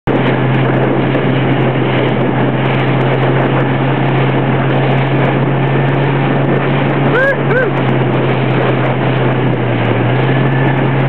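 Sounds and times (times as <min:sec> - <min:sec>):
motorboat engine hum: 0:00.1 - 0:11.0
rush of wind and water: 0:00.1 - 0:11.0.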